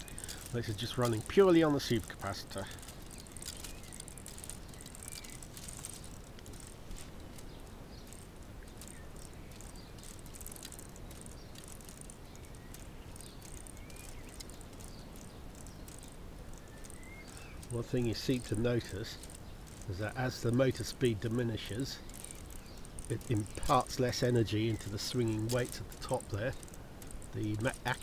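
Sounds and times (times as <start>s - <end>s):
outdoor background noise: 0.0s - 28.0s
toy car gears clicking and rattling: 0.0s - 28.0s.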